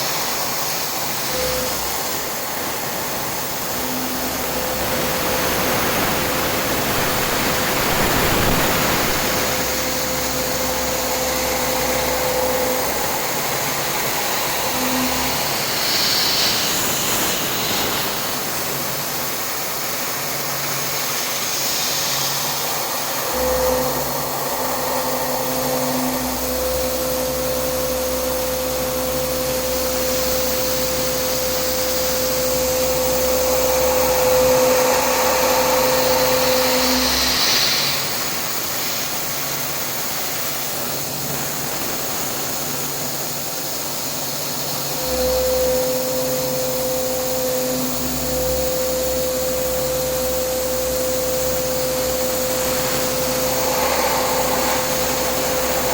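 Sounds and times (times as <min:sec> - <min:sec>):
milling machine hiss and whine: 0:00.0 - 0:55.9.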